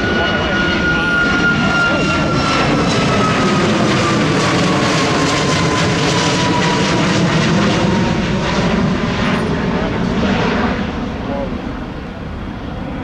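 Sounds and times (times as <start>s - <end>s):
jet airliner engines roaring: 0.0s - 13.0s
jet engine whine: 0.0s - 13.0s.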